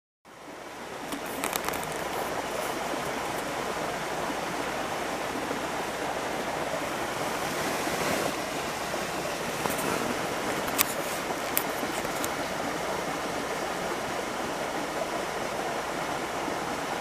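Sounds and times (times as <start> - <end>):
waterfall rushing: 0.4 - 17.0.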